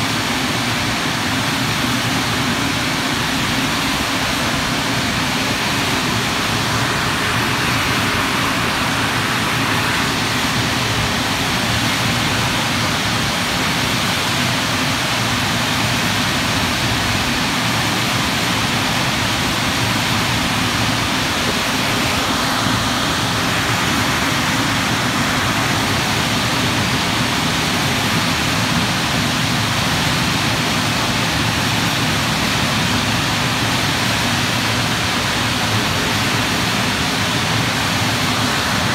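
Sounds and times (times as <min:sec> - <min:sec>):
blower dryer air rush: 0:00.0 - 0:38.9.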